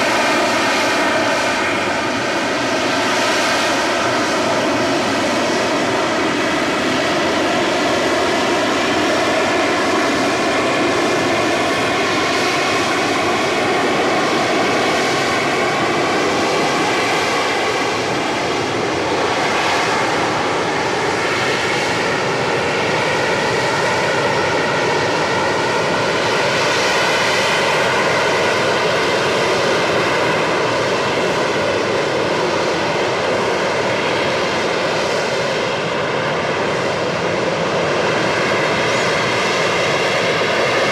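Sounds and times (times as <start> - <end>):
jet engine roaring: 0.0 - 40.9.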